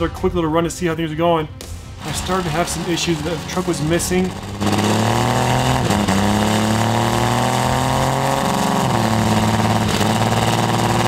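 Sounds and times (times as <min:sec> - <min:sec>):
diesel engine running under load: 0:02.0 - 0:11.0.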